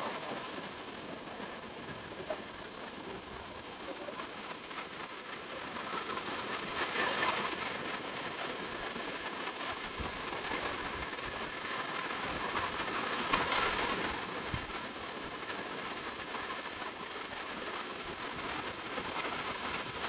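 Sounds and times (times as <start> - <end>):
sea waves washing on beach: 0.0 - 20.0.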